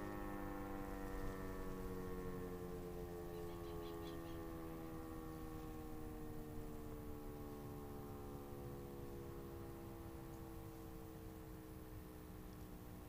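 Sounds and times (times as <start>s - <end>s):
motor siren winding down: 0.0s - 13.0s.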